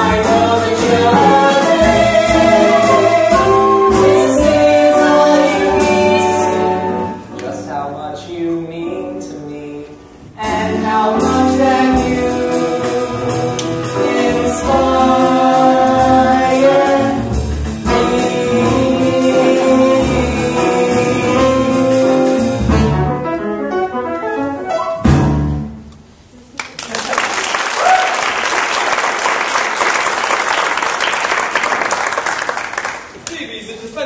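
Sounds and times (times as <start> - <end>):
small band playing: 0.0 - 7.7, 9.9 - 33.2.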